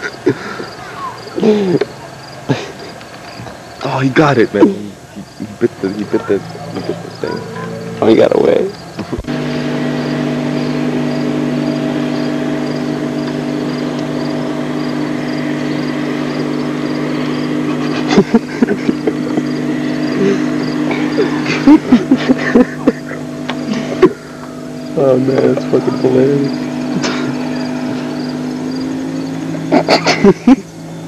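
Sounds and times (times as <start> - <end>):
motor humming: 0.0 - 31.0.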